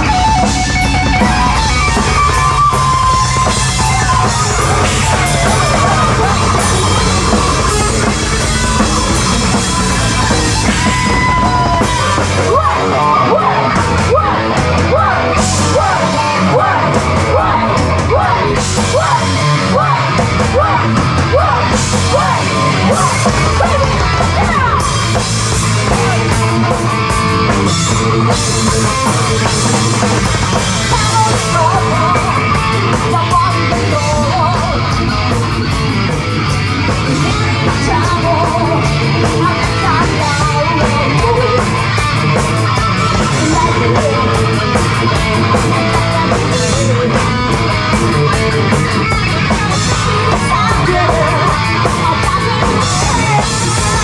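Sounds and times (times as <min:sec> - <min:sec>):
bass guitar: 0:00.0 - 0:54.0
distorted electric guitars: 0:00.0 - 0:54.0
drum kit: 0:00.0 - 0:54.0
person singing: 0:01.2 - 0:27.1, 0:27.7 - 0:35.8, 0:37.0 - 0:42.2, 0:42.8 - 0:54.0.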